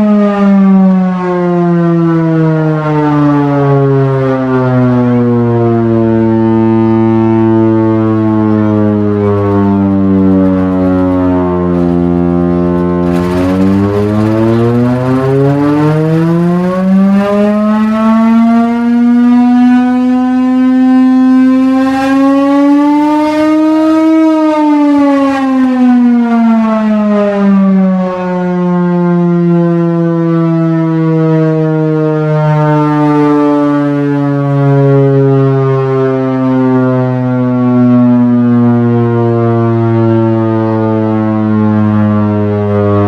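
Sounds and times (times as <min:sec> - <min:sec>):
air raid siren: 0:00.0 - 0:43.0.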